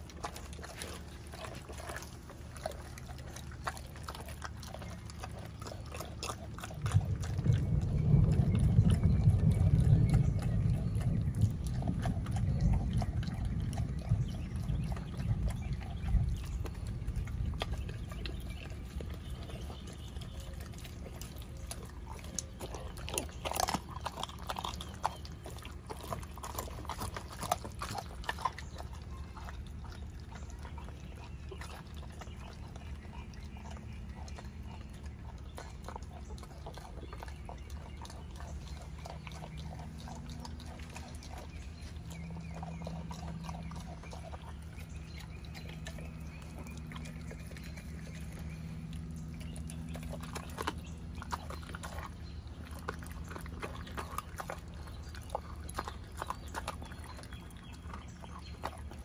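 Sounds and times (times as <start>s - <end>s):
dog chewing raw chicken: 0.0s - 59.0s
low rumble: 6.5s - 56.4s.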